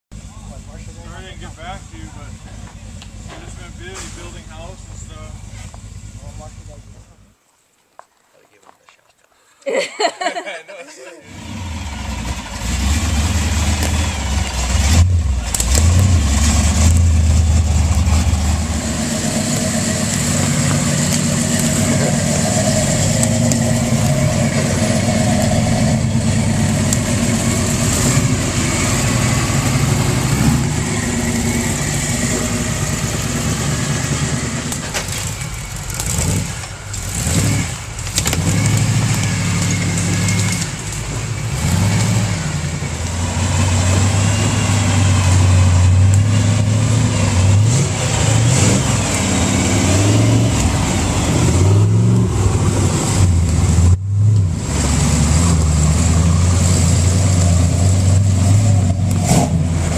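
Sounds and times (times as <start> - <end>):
truck engine revving: 11.2 - 59.9.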